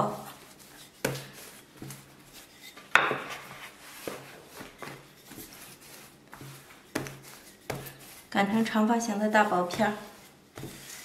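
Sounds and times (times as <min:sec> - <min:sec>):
rolling pin rolling dough: 0:00.0 - 0:11.0.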